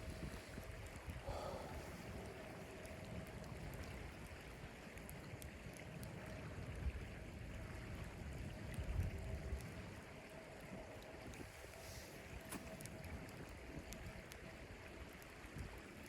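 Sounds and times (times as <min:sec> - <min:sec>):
wind rumbling on microphone: 0:00.0 - 0:16.0
faint ticks: 0:00.1 - 0:06.9, 0:08.5 - 0:16.0.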